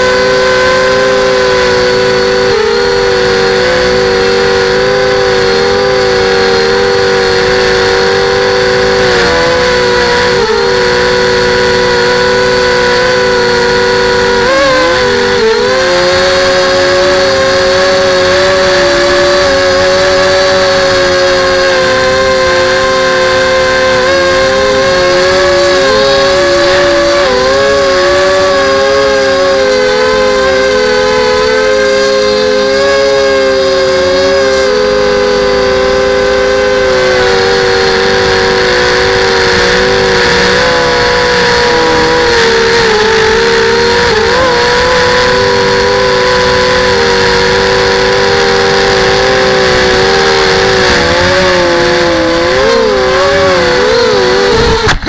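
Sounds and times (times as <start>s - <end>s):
quadcopter propellers whirring: 0.0s - 55.0s.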